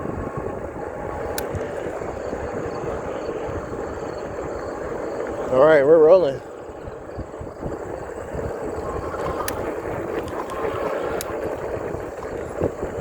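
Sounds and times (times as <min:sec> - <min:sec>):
e-bike riding rumble: 0:00.0 - 0:13.0
wind on microphone: 0:00.0 - 0:13.0.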